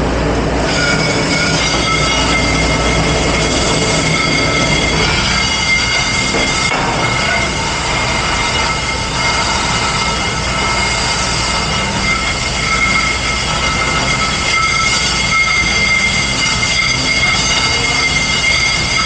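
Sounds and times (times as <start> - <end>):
high-pitched whines: 0.0 - 19.0.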